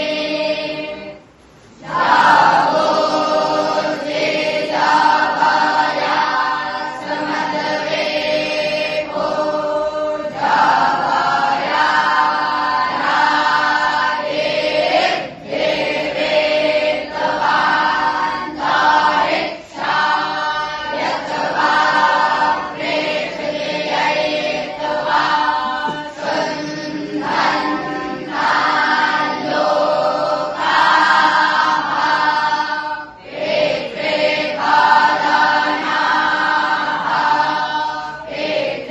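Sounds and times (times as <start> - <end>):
students chanting in unison: 0.0 - 38.9.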